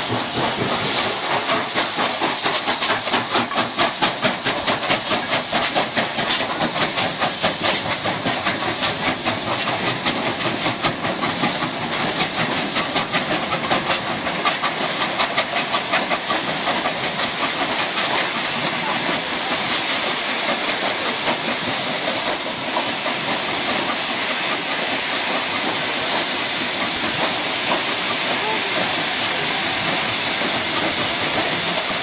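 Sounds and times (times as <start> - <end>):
steam locomotive exhaust chuffs: 0.0 - 32.0
steam train hiss and rumble: 0.0 - 32.0.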